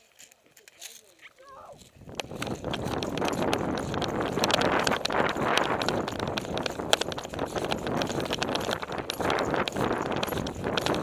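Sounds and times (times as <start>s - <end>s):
running footsteps on dry grass: 0.0s - 11.0s
wind buffeting microphone: 1.8s - 11.0s.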